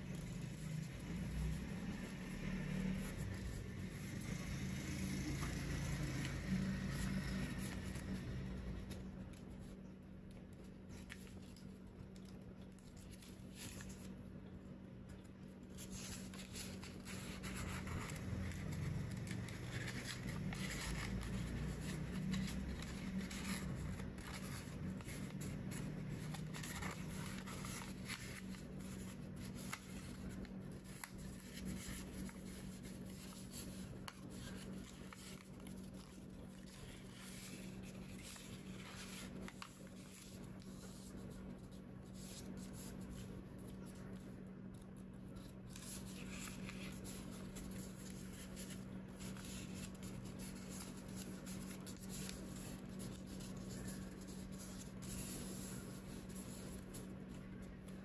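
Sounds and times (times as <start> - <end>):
faint low hum: 0.0 - 58.0
paper folding and rustling: 0.1 - 58.0.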